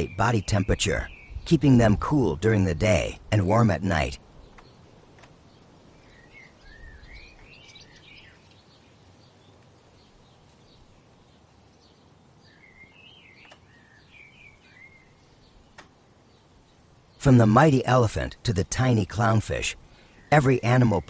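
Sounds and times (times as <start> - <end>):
faint bird song: 0.0 - 21.0
low steady hiss: 0.0 - 21.0.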